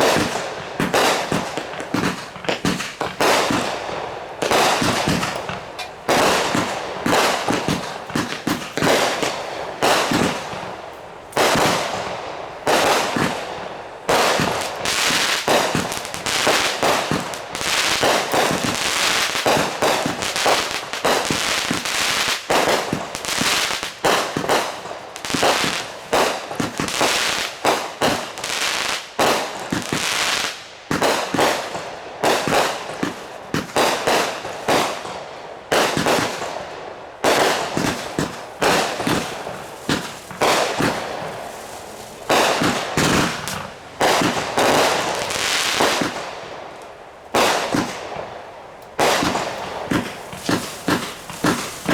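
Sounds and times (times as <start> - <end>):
fireworks banging: 0.0 - 28.5, 30.9 - 51.9.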